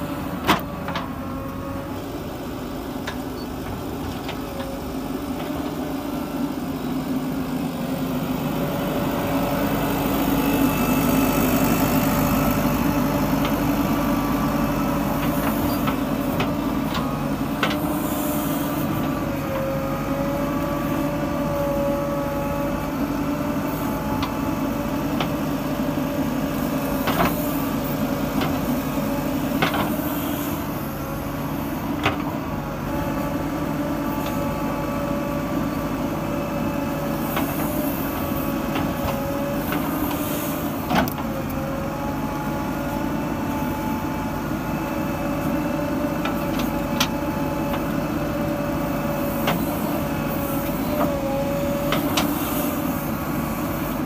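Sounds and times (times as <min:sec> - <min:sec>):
diesel engine running with whine: 0:00.0 - 0:54.0.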